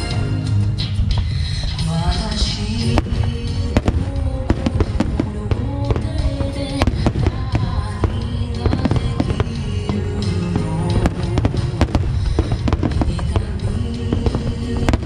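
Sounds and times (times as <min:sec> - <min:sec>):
music: 0:00.0 - 0:15.0
fireworks bangs: 0:01.0 - 0:15.0.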